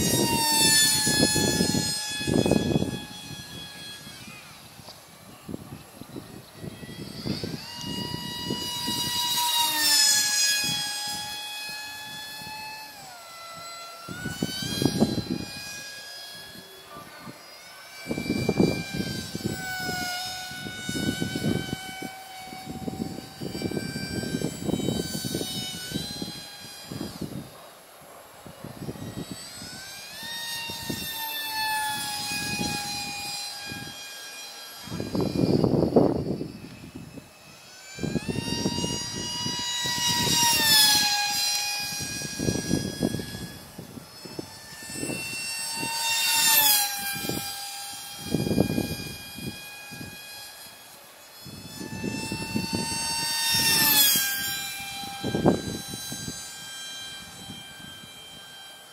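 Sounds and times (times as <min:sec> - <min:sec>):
wind rumbling on microphone: 0:00.0 - 0:58.8
model plane motor whining: 0:00.0 - 0:58.9.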